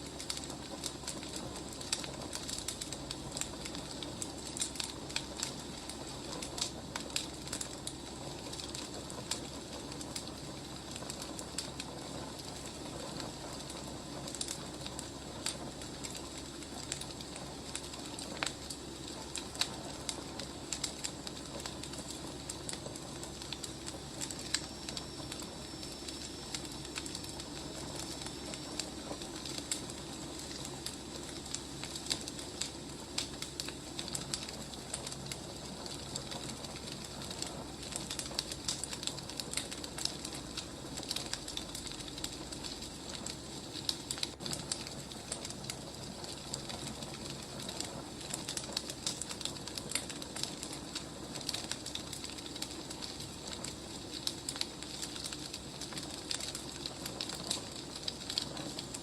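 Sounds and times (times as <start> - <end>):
firewood burning with crackles: 0.0 - 59.0.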